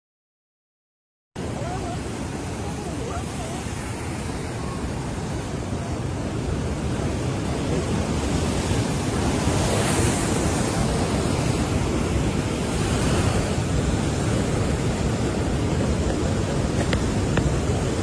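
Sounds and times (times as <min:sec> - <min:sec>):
rough sea surf breaking: 0:01.4 - 0:18.0
wind buffeting microphone: 0:01.4 - 0:18.0.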